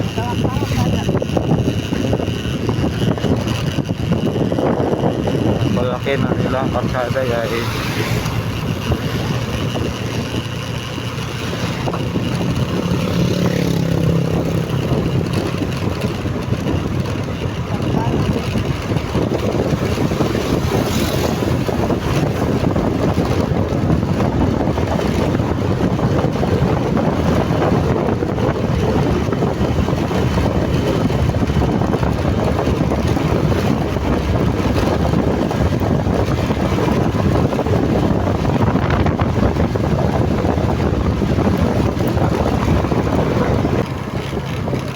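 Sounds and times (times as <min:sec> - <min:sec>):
motorcycle engine running: 0:00.0 - 0:44.9
wind buffeting microphone: 0:00.0 - 0:44.9.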